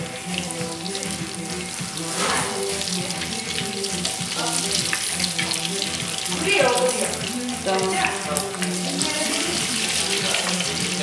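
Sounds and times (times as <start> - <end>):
potatoes deep-frying in oil: 0.0 - 11.0.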